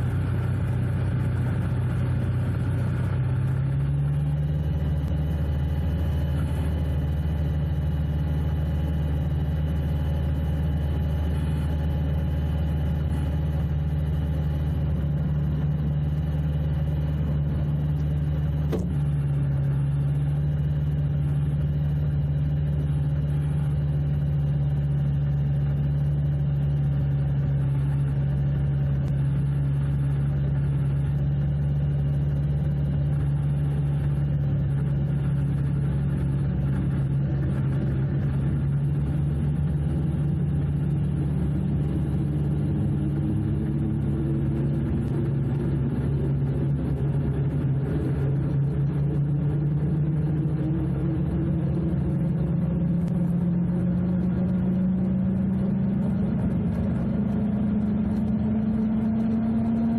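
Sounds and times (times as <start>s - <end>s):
gyrocopter engine running: 0.0s - 59.9s.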